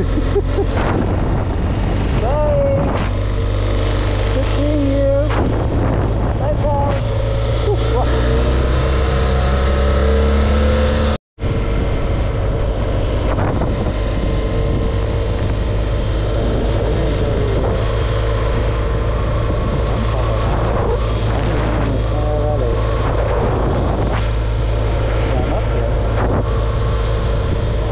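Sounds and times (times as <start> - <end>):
motorcycle engine running: 0.0 - 27.9
wind rushing over microphone: 0.0 - 27.9.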